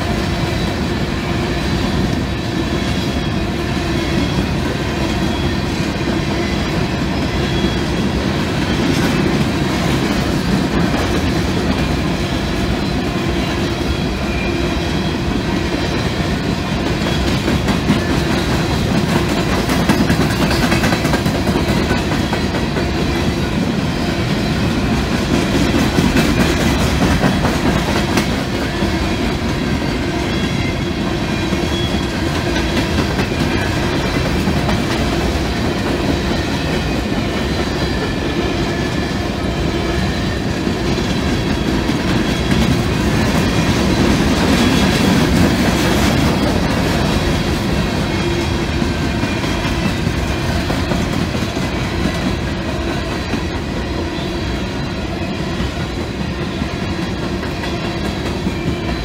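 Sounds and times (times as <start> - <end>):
freight train rumbling past: 0.0 - 59.0
steel wheels clattering on rails: 0.0 - 59.0.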